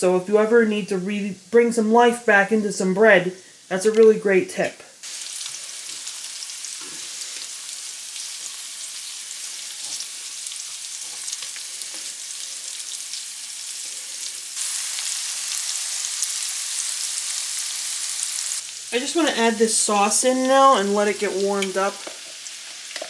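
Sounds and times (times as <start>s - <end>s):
sausage sizzling in a pan: 0.0s - 23.0s.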